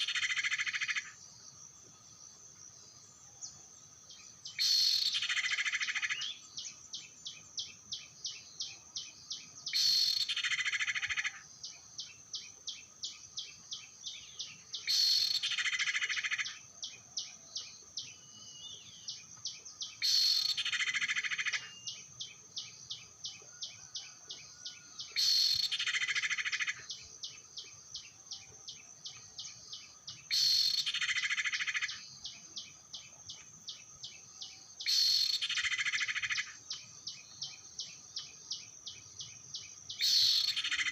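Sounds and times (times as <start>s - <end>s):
bird calls: 0.0s - 1.3s, 3.1s - 40.9s.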